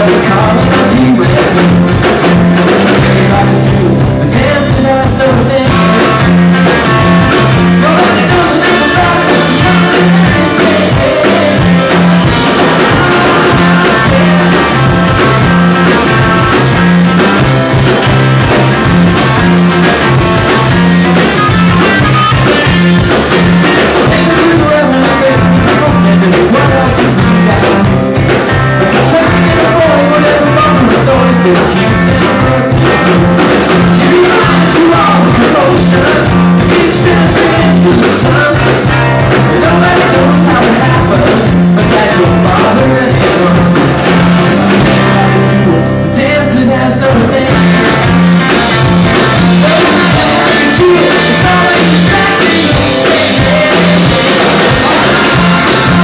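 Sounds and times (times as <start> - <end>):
lead singer: 0.0 - 56.0
live rock band playing: 0.0 - 56.0.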